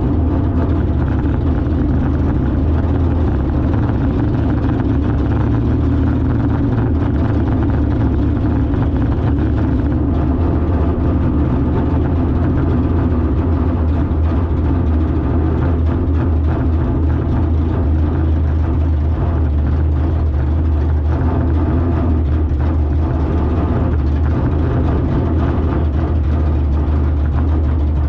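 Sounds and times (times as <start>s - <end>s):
car engine running steadily: 0.0s - 28.0s.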